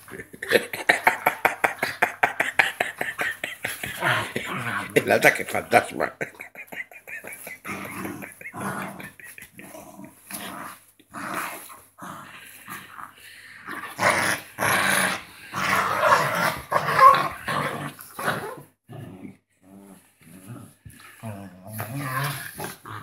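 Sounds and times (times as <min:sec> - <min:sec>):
small dogs growling: 0:00.0 - 0:23.0.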